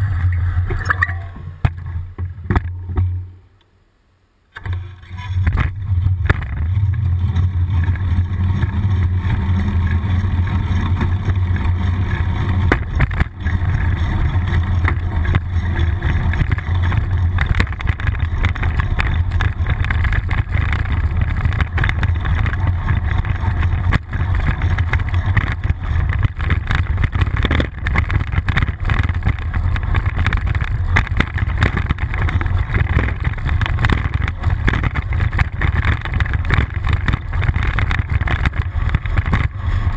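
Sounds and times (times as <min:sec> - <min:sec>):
tyre and road noise: 0:00.0 - 0:03.6, 0:04.5 - 0:39.9
bike jolting clicks: 0:04.6 - 0:39.9.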